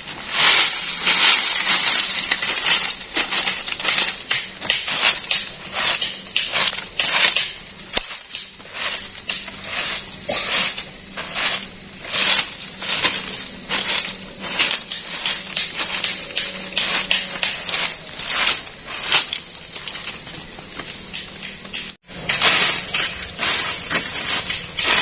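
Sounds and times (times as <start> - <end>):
insects droning: 0.0 - 25.0
rustles: 0.0 - 25.0.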